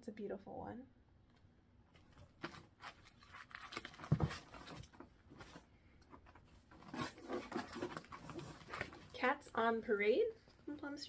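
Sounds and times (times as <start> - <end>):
plastic sleeves rustling and crinkling: 1.9 - 11.0.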